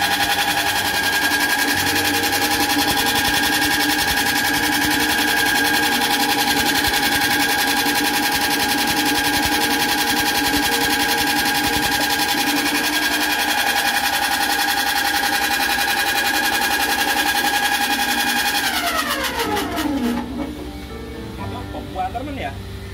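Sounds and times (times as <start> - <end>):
machine motor whining: 0.0 - 21.0.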